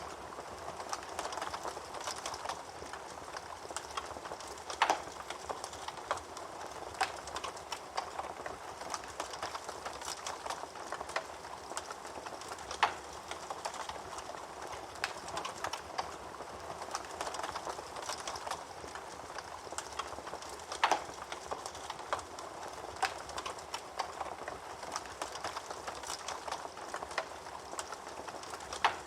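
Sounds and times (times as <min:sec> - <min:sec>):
fire popping: 0:00.0 - 0:29.0
wood fire crackling: 0:00.0 - 0:29.0.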